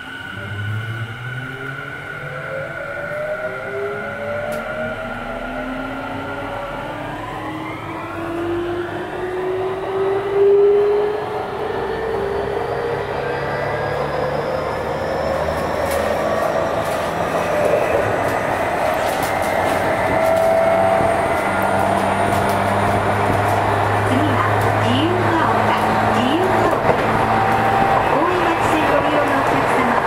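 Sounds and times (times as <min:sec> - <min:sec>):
wheels rumbling on rails: 0:00.0 - 0:30.0.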